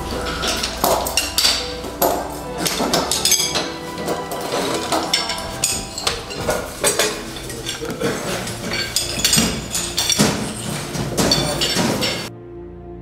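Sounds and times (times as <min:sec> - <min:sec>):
metal hose couplings clanking: 0:00.0 - 0:12.3.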